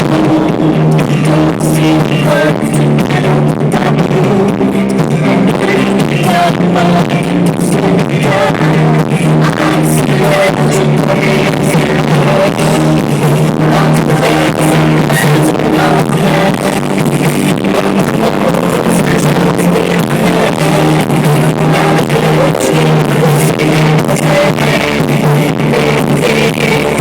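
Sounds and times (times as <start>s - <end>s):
heavy bass line: 0.0s - 27.0s
live pop-rock band: 0.0s - 27.0s.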